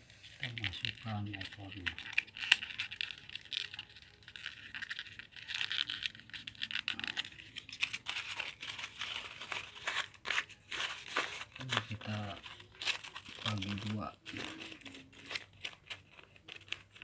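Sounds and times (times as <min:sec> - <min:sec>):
cardboard pack crinkling: 0:00.1 - 0:17.0.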